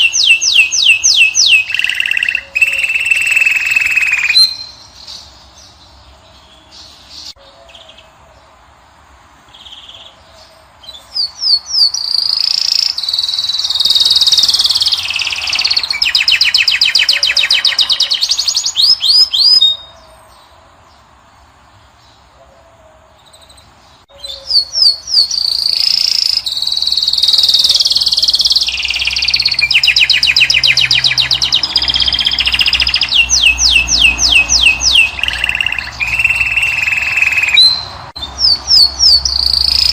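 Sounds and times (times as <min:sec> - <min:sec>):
finch singing trills: 0:00.0 - 0:08.2, 0:09.5 - 0:20.1, 0:23.2 - 0:39.9.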